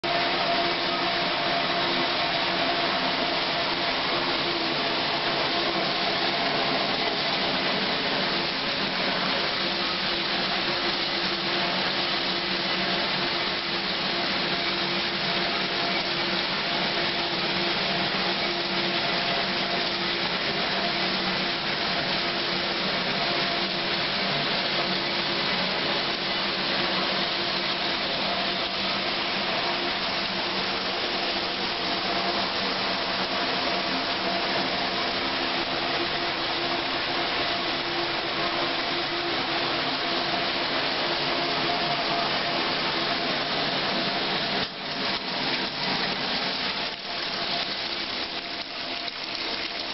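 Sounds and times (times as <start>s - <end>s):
water spraying inside dishwasher: 0.0s - 49.9s.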